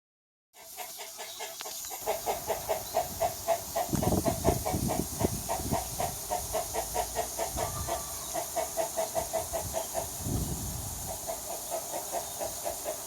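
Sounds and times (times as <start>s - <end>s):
steady hiss: 0.6s - 13.0s.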